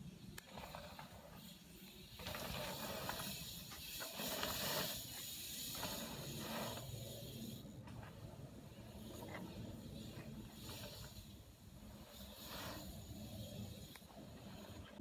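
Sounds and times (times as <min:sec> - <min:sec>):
bike tyres rolling over dirt: 0:00.0 - 0:15.0.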